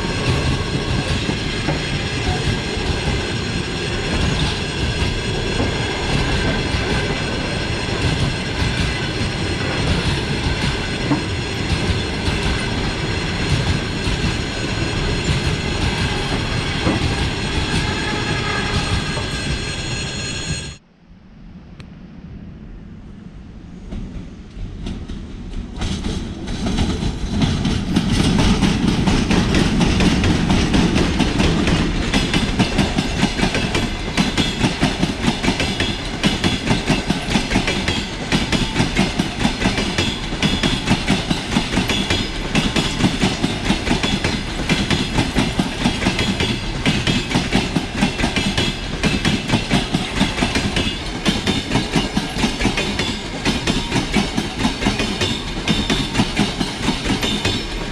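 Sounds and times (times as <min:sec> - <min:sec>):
train wheels clattering over rail joints: 0:00.0 - 0:18.2, 0:24.6 - 0:57.9
electric locomotive passing: 0:00.0 - 0:57.9.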